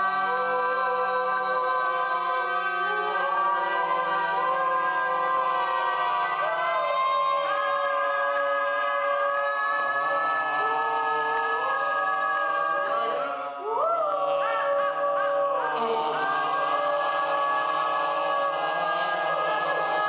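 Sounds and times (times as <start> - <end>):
choir-like vocal drone: 0.0 - 20.0.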